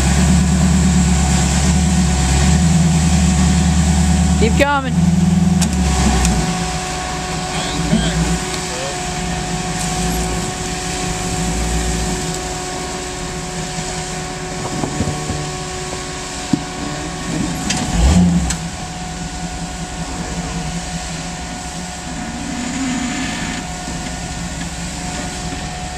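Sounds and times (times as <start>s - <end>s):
engine running at low revs: 0.0s - 25.9s.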